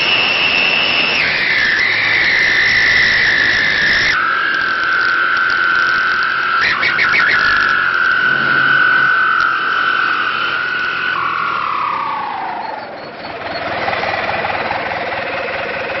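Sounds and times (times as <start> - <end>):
tractor diesel engine whistling exhaust: 0.0 - 16.0.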